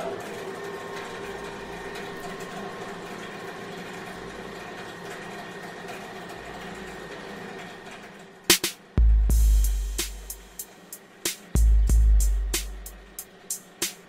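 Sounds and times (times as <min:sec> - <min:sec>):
small machine humming: 0:00.0 - 0:14.0.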